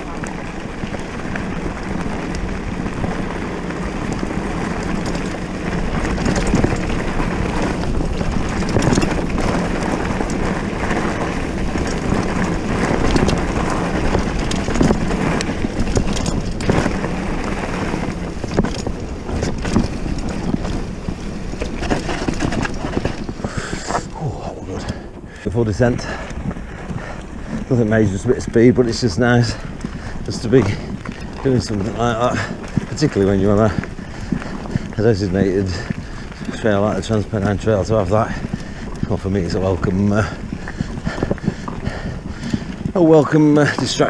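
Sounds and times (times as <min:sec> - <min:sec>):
bike rattling over bumps: 0:00.0 - 0:44.0
bike tyres on gravel: 0:00.0 - 0:44.0
wind on microphone: 0:01.1 - 0:43.7.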